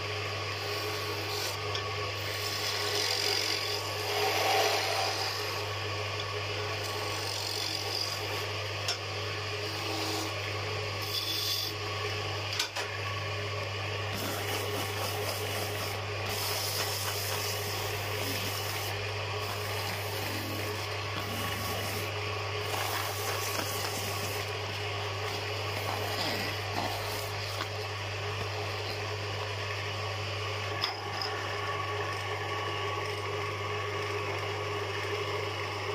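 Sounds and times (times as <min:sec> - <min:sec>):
wood lathe humming: 0:00.0 - 0:12.0, 0:14.0 - 0:35.9.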